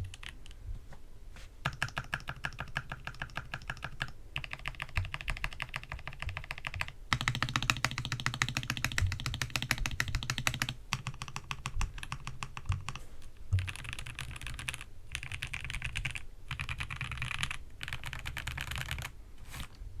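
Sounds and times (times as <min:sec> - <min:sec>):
fast typing on mechanical keyboard: 0:00.0 - 0:00.4, 0:01.6 - 0:19.1.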